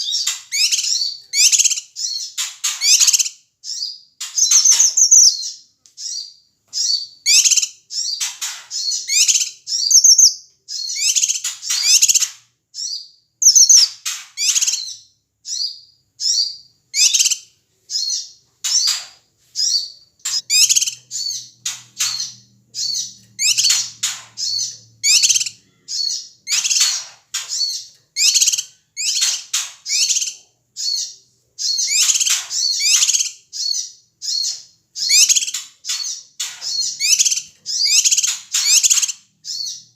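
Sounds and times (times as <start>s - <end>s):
bird chattering calls: 0.0s - 6.2s, 6.8s - 39.8s.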